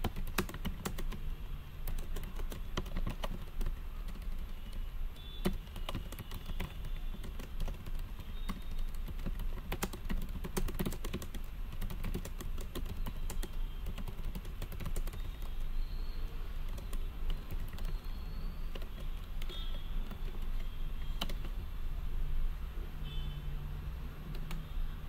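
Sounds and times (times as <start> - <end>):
computer keyboard typing: 0.0 - 15.9, 16.5 - 21.6, 24.2 - 24.8.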